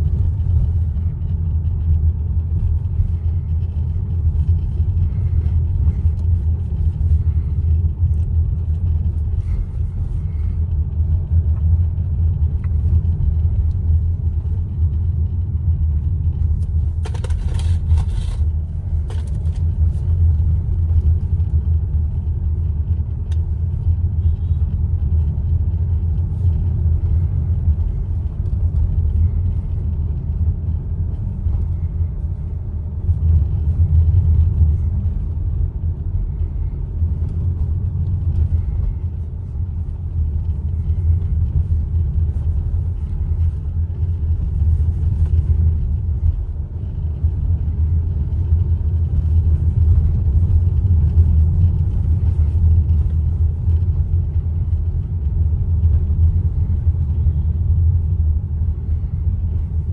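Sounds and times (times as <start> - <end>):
drivetrain running: 0.0 - 59.9
road and tyre noise: 0.0 - 59.9.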